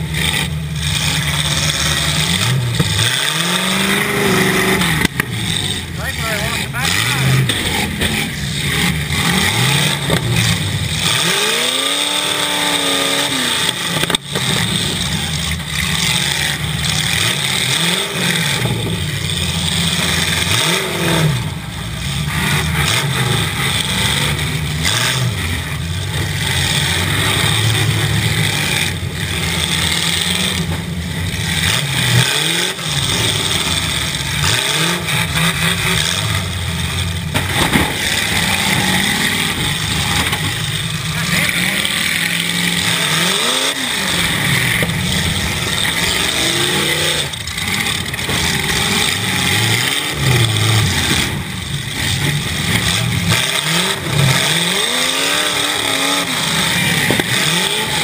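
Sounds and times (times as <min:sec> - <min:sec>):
car engine revving: 0:00.0 - 0:58.0
steady mechanical noise: 0:00.0 - 0:58.0.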